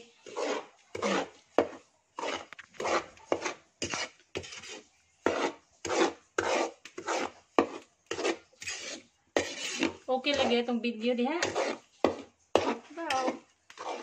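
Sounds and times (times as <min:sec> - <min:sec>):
metal spoon scraping flour in pan: 0:00.0 - 0:14.0.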